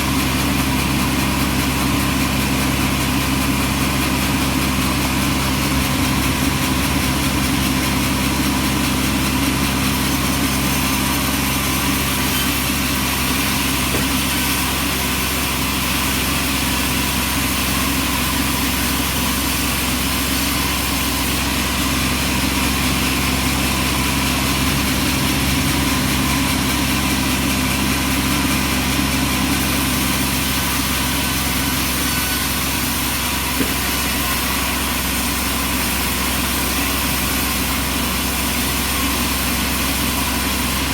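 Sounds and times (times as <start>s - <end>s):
bandsaw sawmill running: 0.0s - 40.9s.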